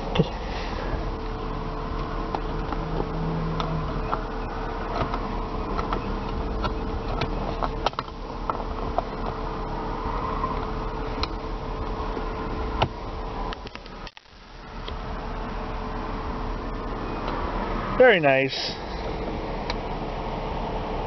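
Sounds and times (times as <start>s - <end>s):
car engine idling: 0.0s - 21.0s
climate-control fan hum: 0.0s - 21.0s.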